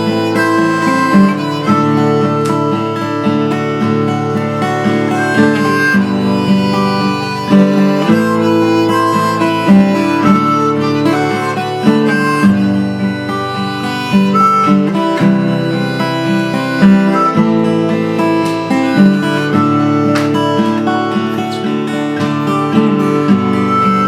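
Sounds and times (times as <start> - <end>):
harmonica melody: 0.0 - 24.0
strummed acoustic guitar: 0.0 - 24.0.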